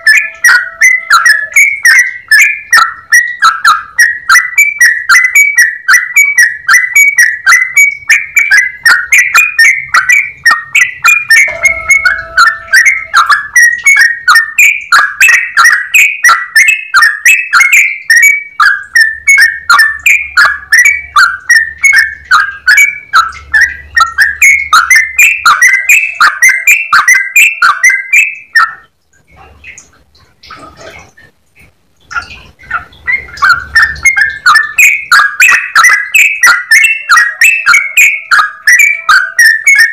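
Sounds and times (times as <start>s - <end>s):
bulbul singing repeated notes: 0.0s - 39.9s.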